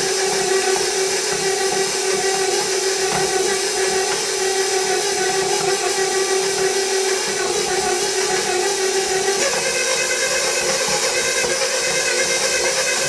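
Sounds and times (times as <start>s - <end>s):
stand mixer motor whining: 0.0s - 13.0s.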